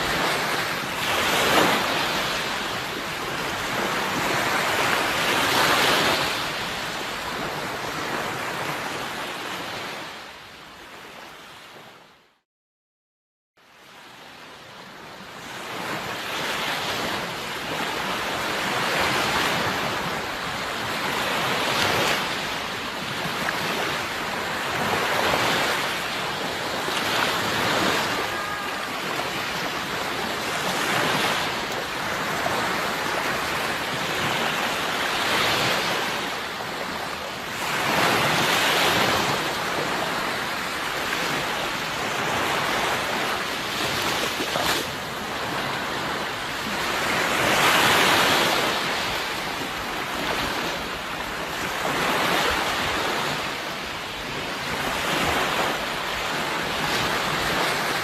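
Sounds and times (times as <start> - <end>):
sea waves washing onto shore: 0.0 - 10.4, 14.0 - 58.0.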